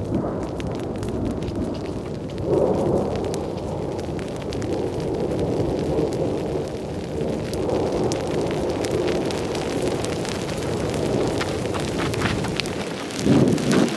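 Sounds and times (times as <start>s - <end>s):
distant thunder rumble: 0.0s - 13.9s.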